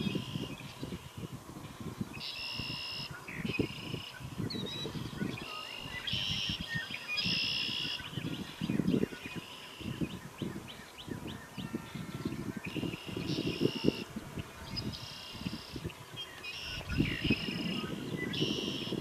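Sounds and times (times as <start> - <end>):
songbird buzzy trills: 0.0 - 19.0.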